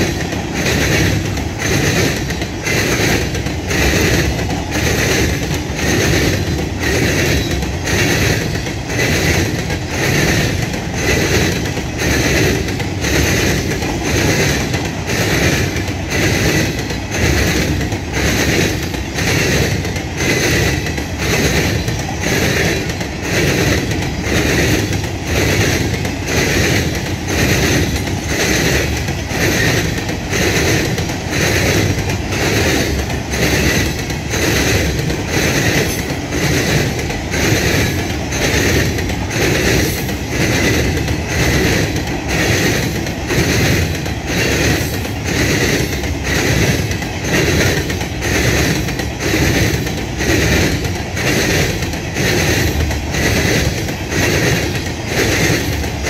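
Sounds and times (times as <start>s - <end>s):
freight train wheels clicking: 0.0s - 56.0s.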